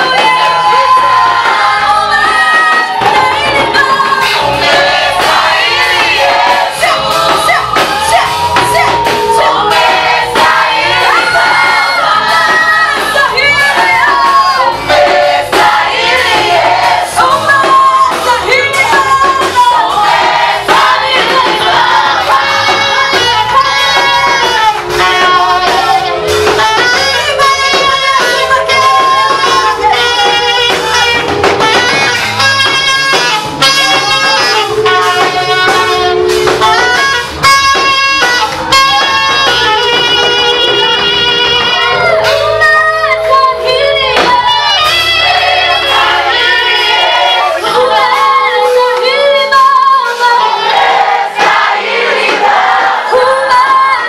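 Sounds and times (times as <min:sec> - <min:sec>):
gospel singing voices: 0:00.0 - 0:54.0
instrumental backing with beat: 0:00.0 - 0:54.0.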